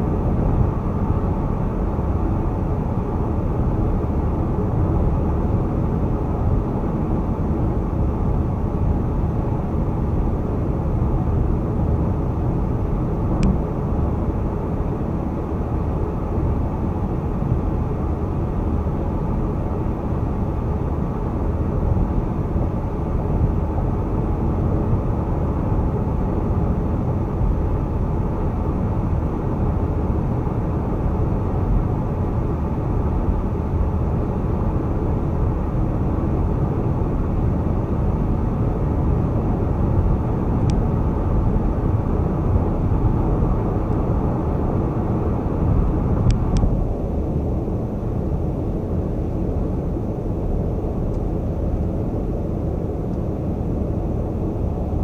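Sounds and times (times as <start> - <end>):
road and tyre noise: 0.0 - 55.0.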